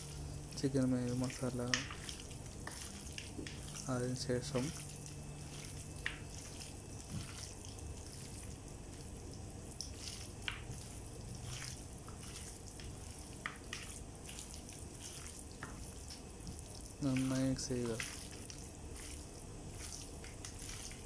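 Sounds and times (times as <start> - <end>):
steady low hum: 0.0 - 21.0
wet squelches: 0.0 - 21.0.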